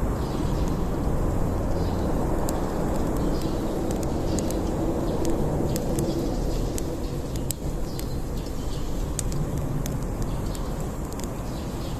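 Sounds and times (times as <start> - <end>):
campfire crackling: 0.0 - 11.9
low rush of fire: 0.0 - 11.9.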